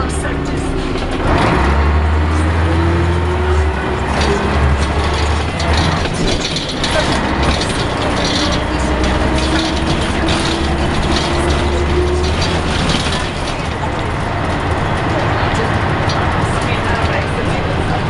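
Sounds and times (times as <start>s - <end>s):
diesel bus engine droning: 0.0s - 18.0s
panels and fittings rattling: 0.0s - 18.0s.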